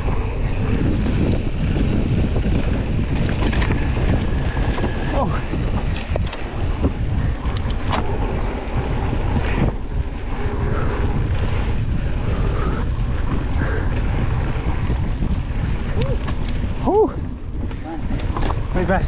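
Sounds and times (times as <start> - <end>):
bike knocks and rattles: 0.0 - 9.8, 13.2 - 19.0
wind rumbling on microphone: 0.0 - 19.0.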